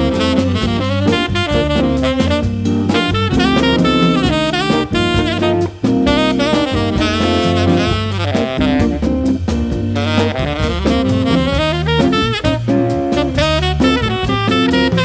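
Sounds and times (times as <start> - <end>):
drums: 0.0 - 15.0
organ: 0.0 - 15.0
tenor saxophone jazz line: 0.0 - 15.0.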